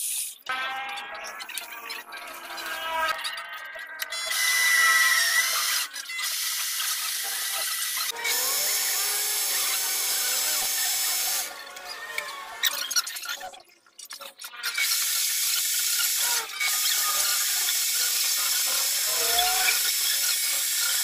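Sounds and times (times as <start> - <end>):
metal lathe cutting metal: 0.6 - 13.2, 14.8 - 21.0.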